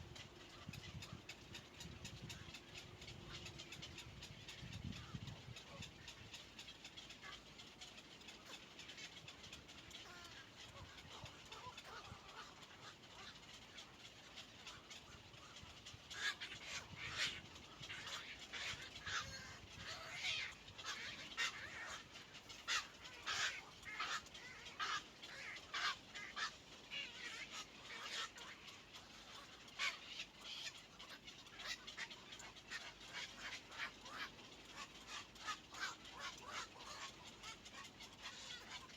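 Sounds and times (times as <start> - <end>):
nestling birds begging calls: 0.1 - 38.9.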